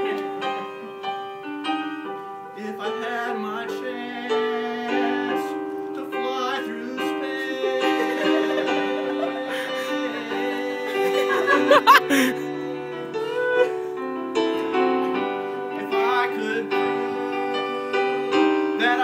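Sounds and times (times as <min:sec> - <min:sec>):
piano playing held chords: 0:00.0 - 0:19.0.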